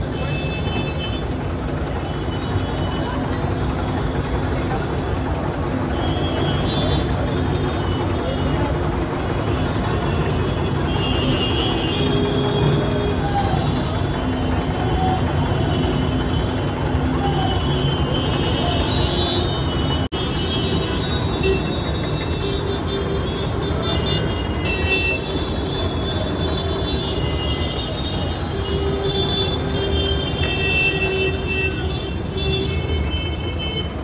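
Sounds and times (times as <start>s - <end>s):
vehicle horns tooting: 0.0s - 4.0s, 5.8s - 34.0s
busy road traffic: 0.0s - 34.0s.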